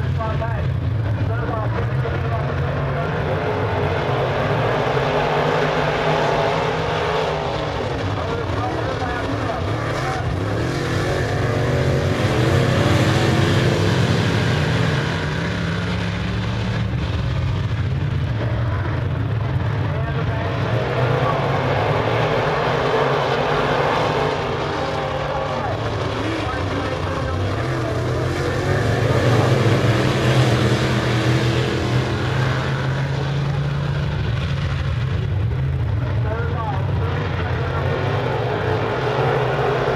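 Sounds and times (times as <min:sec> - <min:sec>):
race car engines running hard: 0:00.0 - 0:39.9.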